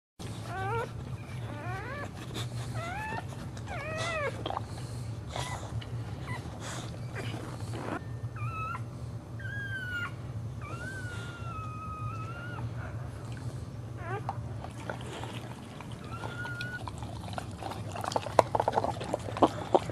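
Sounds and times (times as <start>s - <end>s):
dog whining: 0.2s - 19.9s
steady low hum: 0.2s - 19.9s.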